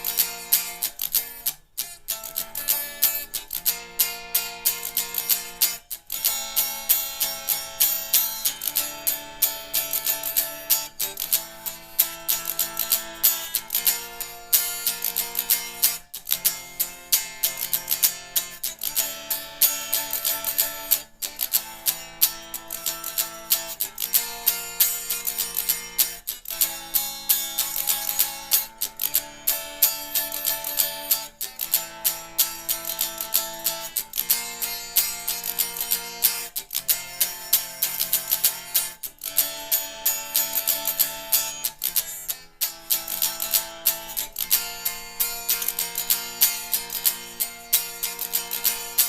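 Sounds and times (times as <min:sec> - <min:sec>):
guitar strumming chords: 0:00.0 - 0:49.0.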